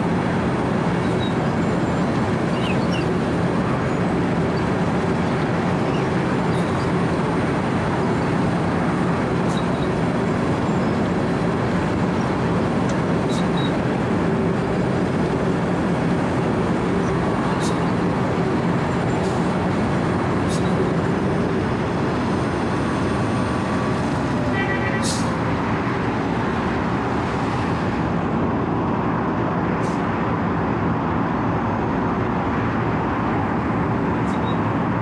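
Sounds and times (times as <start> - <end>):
low engine hum: 0.0 - 35.0.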